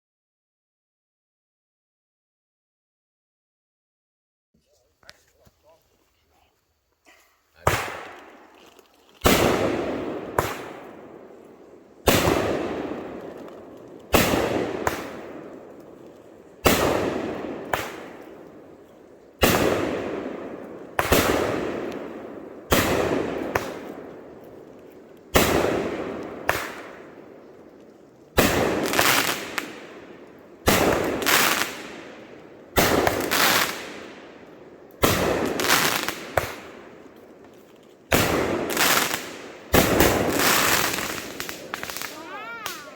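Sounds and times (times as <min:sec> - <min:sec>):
firework bangs with crackling tails: 0:07.6 - 0:42.9.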